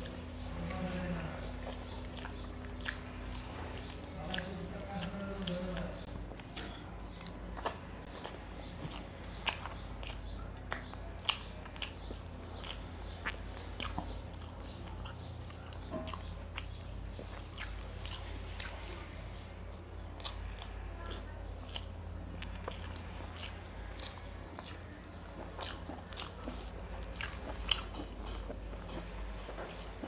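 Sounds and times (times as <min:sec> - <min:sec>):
chewing and mouth smacks: 0:00.0 - 0:30.0.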